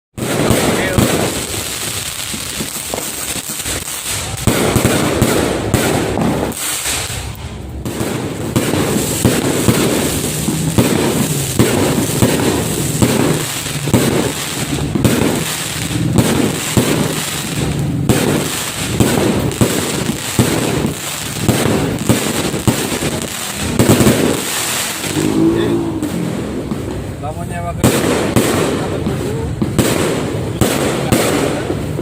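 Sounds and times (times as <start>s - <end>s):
fireworks bangs and crackles: 0.1s - 32.0s.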